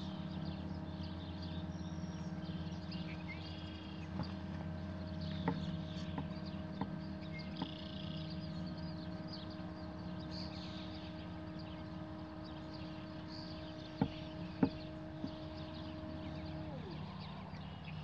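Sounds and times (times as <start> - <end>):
faint birdsong: 0.0 - 18.0
low hum: 0.0 - 18.0
motor whine: 0.0 - 18.0.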